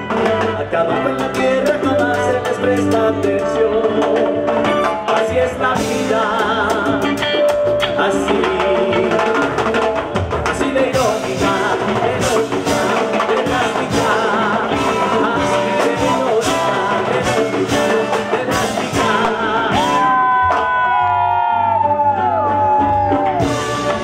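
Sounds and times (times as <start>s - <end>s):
man singing: 0.0s - 20.8s
electric guitar lead bending notes: 0.0s - 21.1s
bass: 0.0s - 24.0s
congas: 0.0s - 24.0s
electric guitar: 0.0s - 24.0s.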